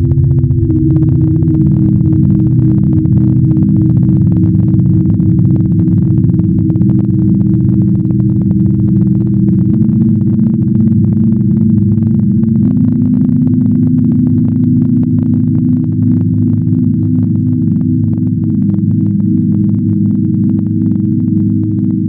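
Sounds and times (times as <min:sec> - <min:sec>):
fast flickering crackle: 0:00.0 - 0:22.0
synthesized low drone: 0:00.0 - 0:22.0.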